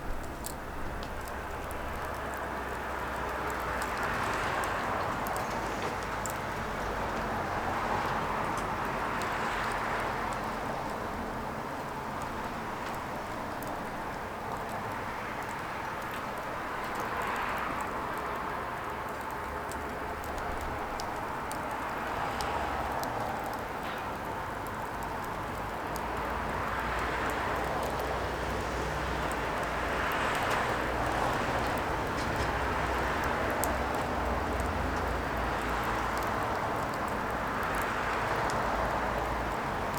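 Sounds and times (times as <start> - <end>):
fire burning with crackles: 0.0 - 39.9.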